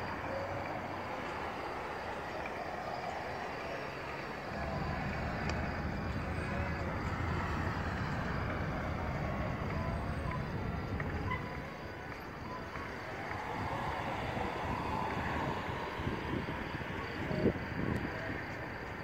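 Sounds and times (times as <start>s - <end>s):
low hum of distant city: 0.0s - 19.0s.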